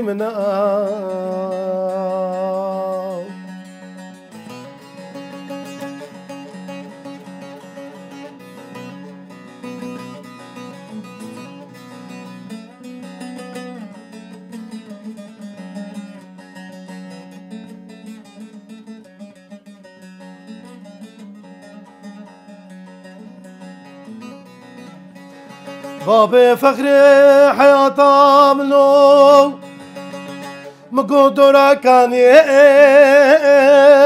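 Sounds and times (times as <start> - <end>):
plucked lute melody: 0.0 - 34.0.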